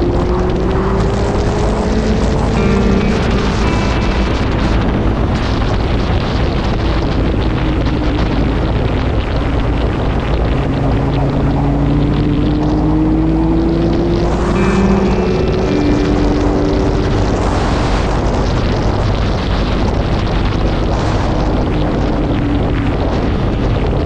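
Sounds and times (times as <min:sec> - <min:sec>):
motorcycle engine hum: 0:00.0 - 0:24.0
wind rush on microphone: 0:00.0 - 0:24.0.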